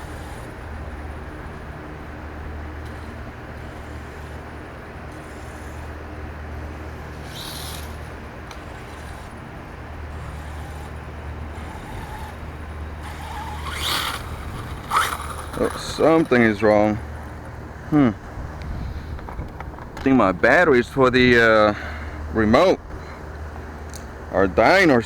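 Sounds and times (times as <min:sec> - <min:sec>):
low outdoor hum: 0:00.0 - 0:25.0.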